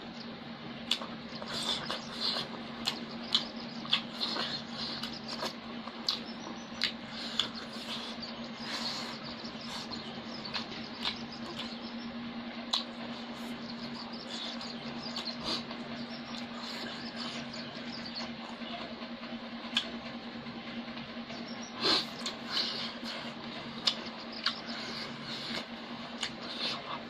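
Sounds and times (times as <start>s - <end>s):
steady low hum: 0.0s - 27.0s
chewing and lip-smacking: 0.8s - 12.0s, 12.6s - 18.9s, 19.7s - 20.1s, 21.8s - 27.0s.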